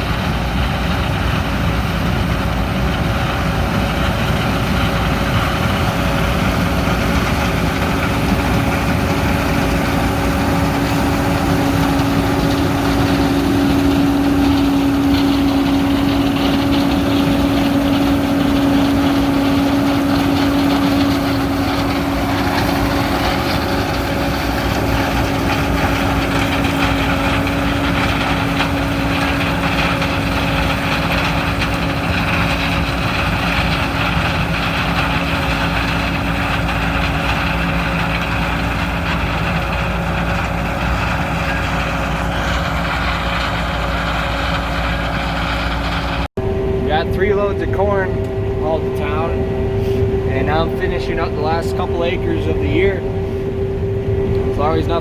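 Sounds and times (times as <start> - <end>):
diesel engine running: 0.0 - 55.0
steady hum: 1.4 - 55.0.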